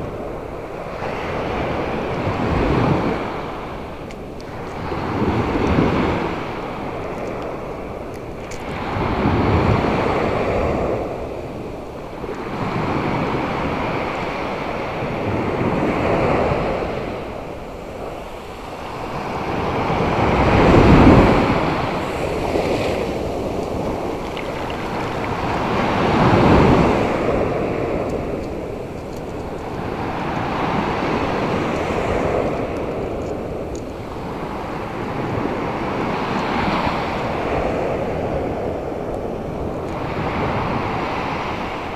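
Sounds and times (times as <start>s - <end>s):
surf breaking on beach: 4.5s - 39.0s.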